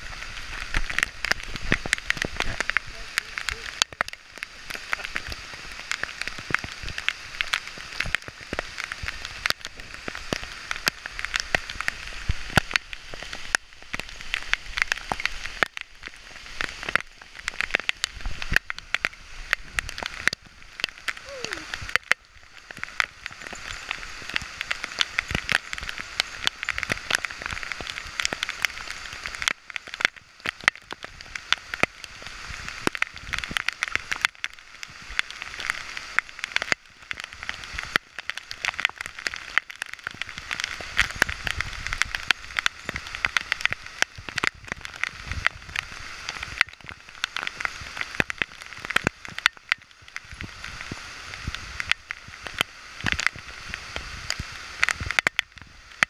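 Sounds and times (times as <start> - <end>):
rain falling in forest: 0.0 - 56.0
raindrops tapping on camera housing: 0.0 - 56.0.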